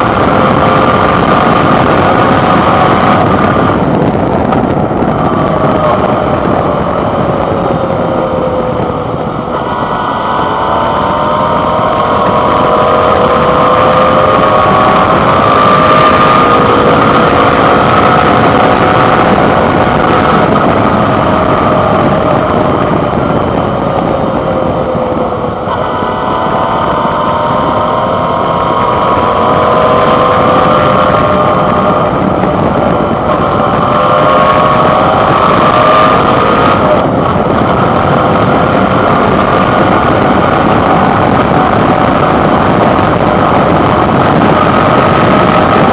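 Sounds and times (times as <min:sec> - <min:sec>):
motorcycle engine running: 0:00.0 - 0:45.9
wind rush: 0:00.0 - 0:45.9.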